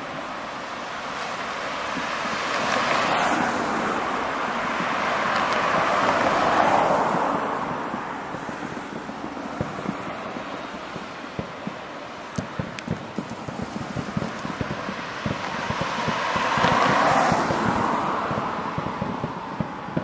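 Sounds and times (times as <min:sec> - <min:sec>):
vehicles passing close by: 0:00.0 - 0:20.0.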